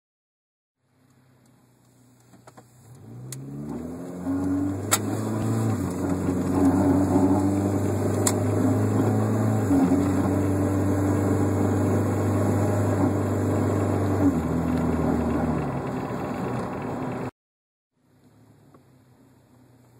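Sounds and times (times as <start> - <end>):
car engine droning: 0.8 - 17.3.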